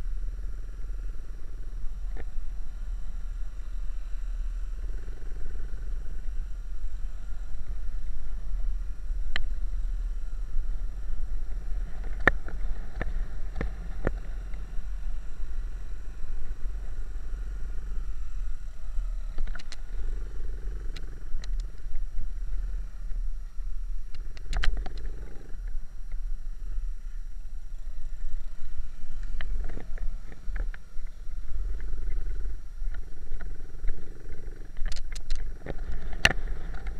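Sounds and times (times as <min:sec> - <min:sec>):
motorbike engine rumble: 0:00.0 - 0:36.9.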